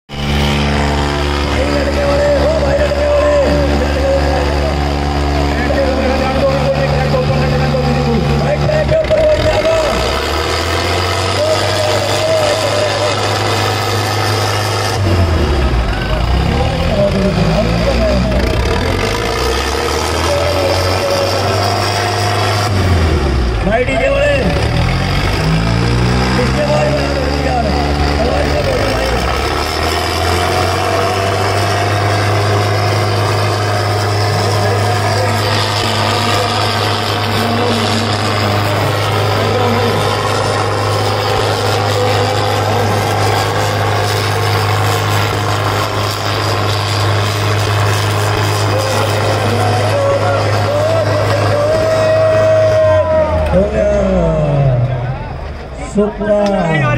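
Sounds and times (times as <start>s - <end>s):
tractor engines droning: 0.1s - 56.9s.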